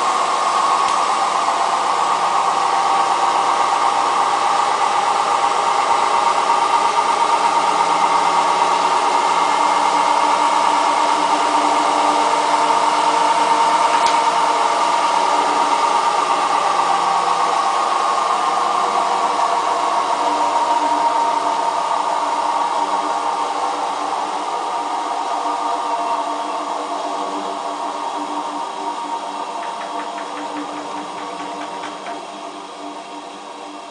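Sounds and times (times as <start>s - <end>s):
washing machine spinning: 0.0s - 33.9s.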